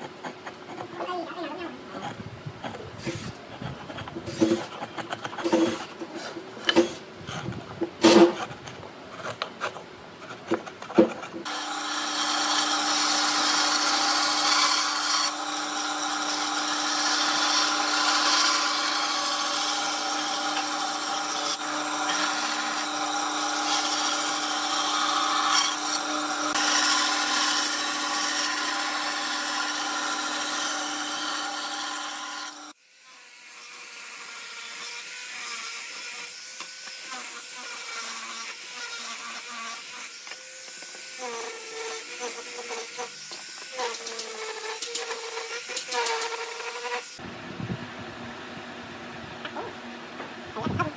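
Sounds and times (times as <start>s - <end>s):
power tool grinding wood: 0.0s - 32.8s, 34.2s - 47.2s.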